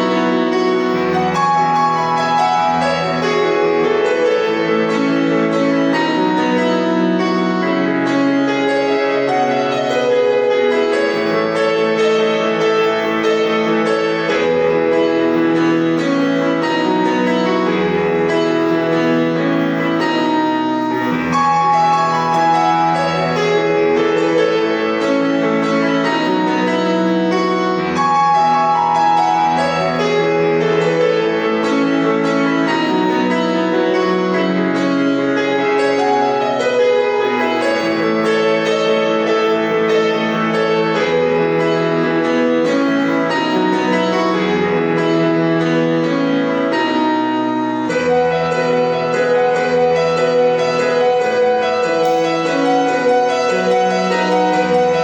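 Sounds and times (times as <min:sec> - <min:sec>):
solo piano piece: 0:00.0 - 0:55.0.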